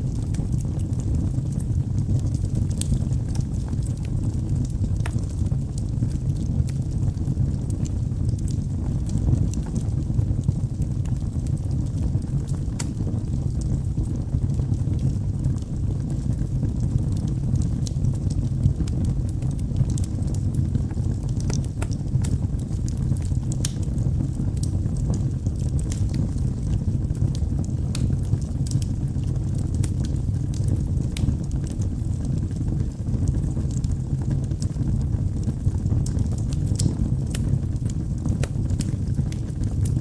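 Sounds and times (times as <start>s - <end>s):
fire flames rumbling: 0.0s - 40.0s
wood fire crackles and pops: 0.0s - 40.0s.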